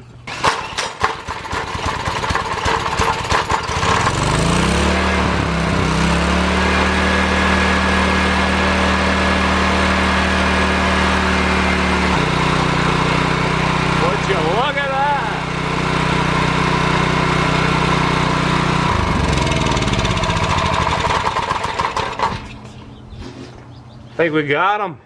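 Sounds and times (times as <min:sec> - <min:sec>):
generator engine starting and running: 0:00.0 - 0:24.2.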